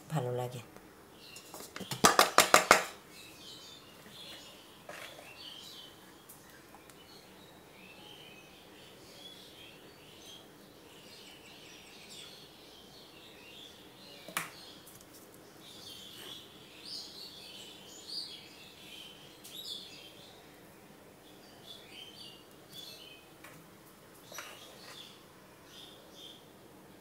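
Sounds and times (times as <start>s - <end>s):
small birds chirping: 0.1s - 27.0s.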